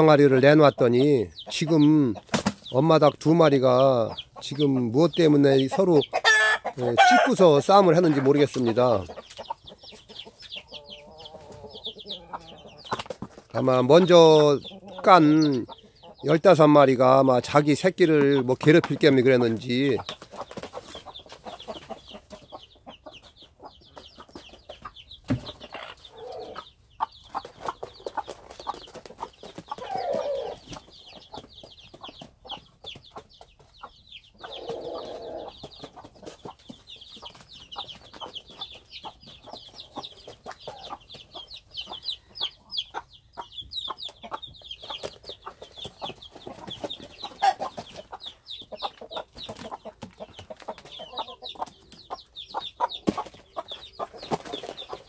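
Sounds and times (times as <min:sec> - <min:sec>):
chicks peeping: 0:00.0 - 0:55.0
hens clucking: 0:00.0 - 0:55.0.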